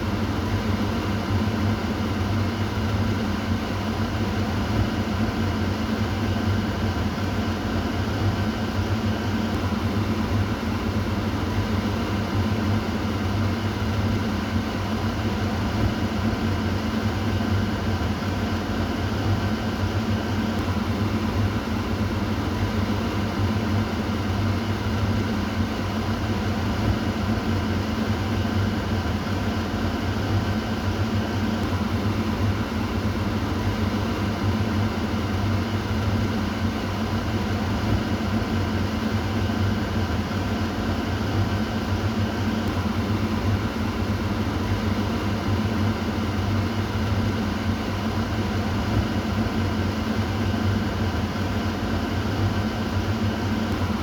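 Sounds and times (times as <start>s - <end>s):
exhaust fan air rushing: 0.0s - 54.0s.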